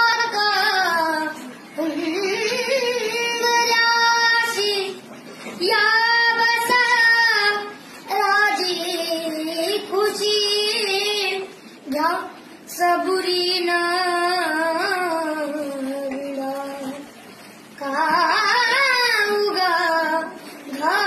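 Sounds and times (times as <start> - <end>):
person singing unaccompanied: 0.0 - 17.0, 17.8 - 21.0.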